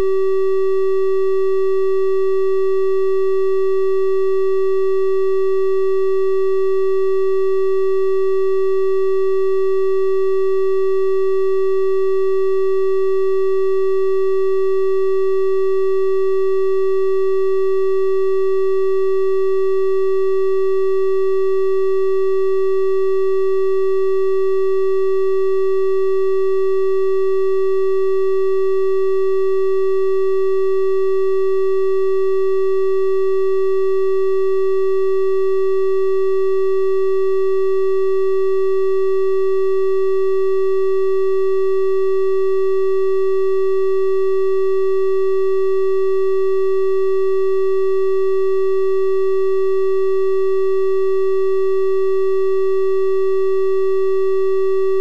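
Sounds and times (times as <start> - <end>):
steady test tone hum: 0.0 - 55.0.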